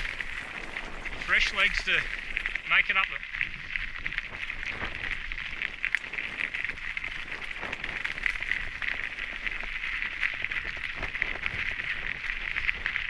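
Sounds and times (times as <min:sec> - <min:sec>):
bike tyres crackling on gravel: 0:00.0 - 0:13.0.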